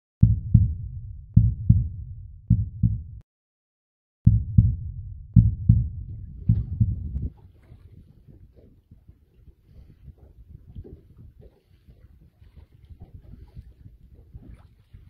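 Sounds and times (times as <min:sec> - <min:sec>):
heartbeat thumps: 0:00.2 - 0:03.2, 0:04.3 - 0:15.0.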